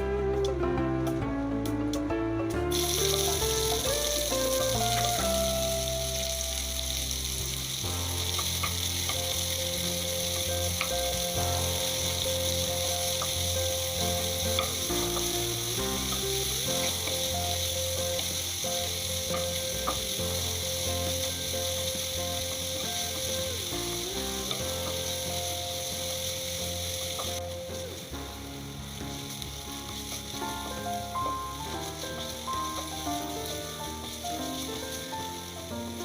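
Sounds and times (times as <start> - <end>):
food sizzling in a pan: 2.7 - 36.0.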